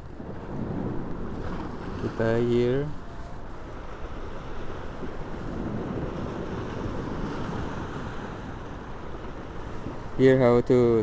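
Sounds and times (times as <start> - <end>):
surf washing on rocky shore: 0.0 - 11.0
wind on microphone: 0.0 - 11.0.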